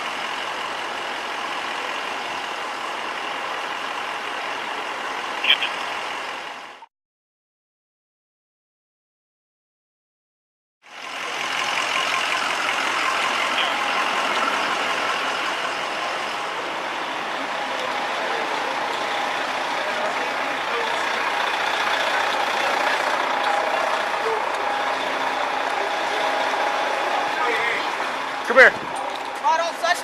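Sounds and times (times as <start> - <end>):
steady vehicle noise: 0.0 - 6.9, 10.8 - 30.0.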